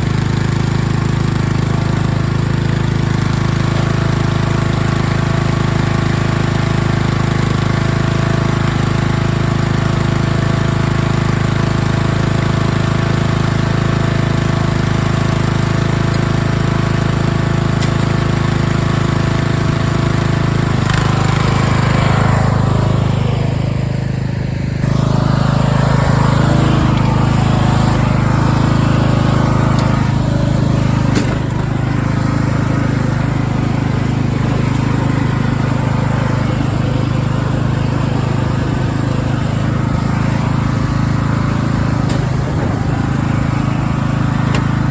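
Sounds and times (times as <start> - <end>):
riding lawn mower engine: 0.0 - 44.9.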